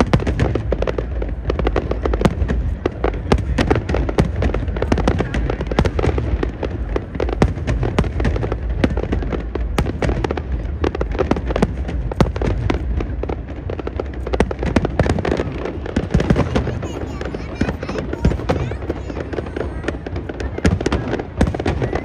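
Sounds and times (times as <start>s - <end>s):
continuous low rumble: 0.0s - 22.0s
fireworks bangs and crackles: 0.0s - 22.0s.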